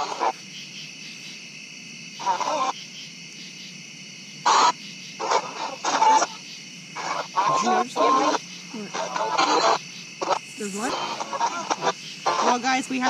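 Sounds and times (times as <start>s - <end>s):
static hiss: 0.0s - 13.0s.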